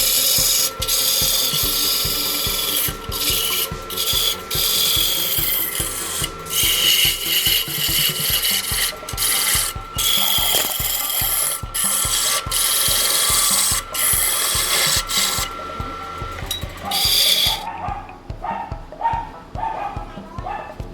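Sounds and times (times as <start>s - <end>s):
tool scraping wood on lathe: 0.0s - 18.7s.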